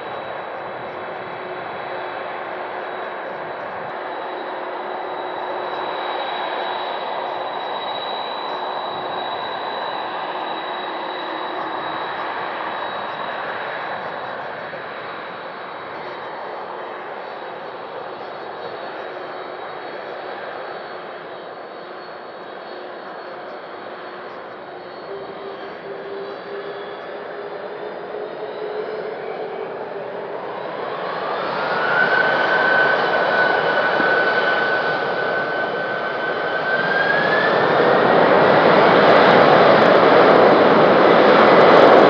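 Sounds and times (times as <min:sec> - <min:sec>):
jet engines at taxi power: 0:00.0 - 0:42.0.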